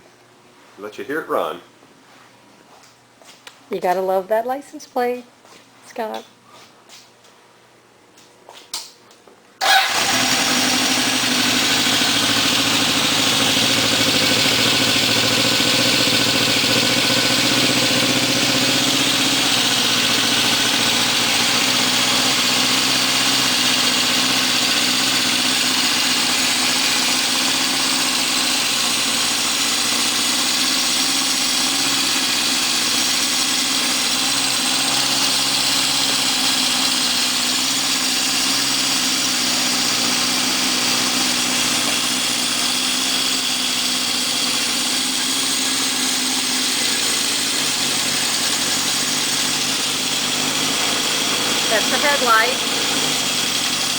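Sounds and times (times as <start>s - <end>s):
motorcycle engine idling: 9.6s - 53.9s.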